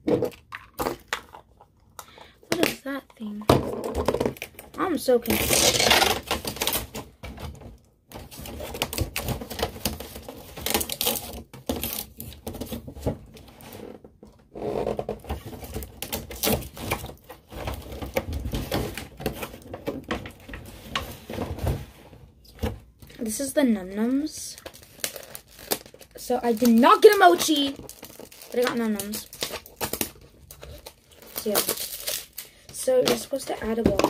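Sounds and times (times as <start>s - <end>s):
hands handling toy packaging: 0.1s - 34.0s.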